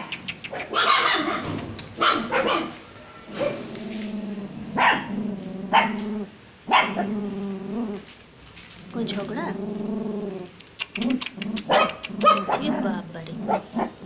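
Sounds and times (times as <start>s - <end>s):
puppies barking and yapping: 0.0s - 8.1s, 10.6s - 14.0s.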